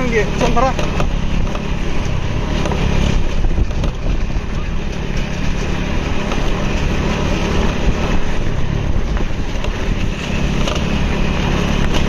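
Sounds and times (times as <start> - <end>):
vehicle engine running: 0.0 - 12.0
wind noise on microphone: 0.7 - 12.0.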